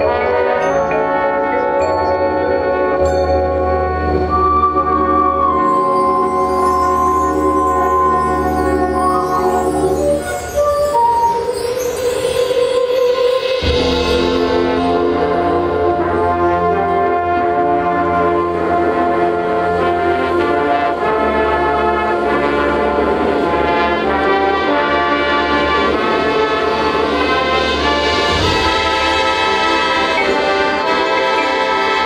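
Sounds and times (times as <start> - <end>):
brass sustained chords: 0.0 - 32.0
marching band playing: 0.0 - 32.0.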